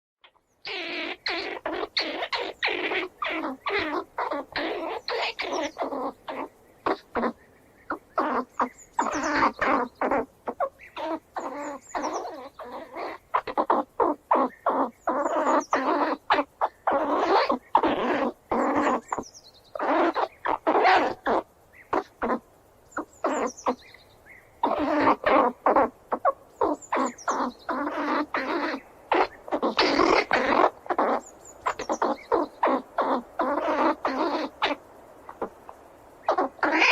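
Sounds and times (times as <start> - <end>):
squirrel squealing: 0.2 - 23.9, 24.6 - 36.9.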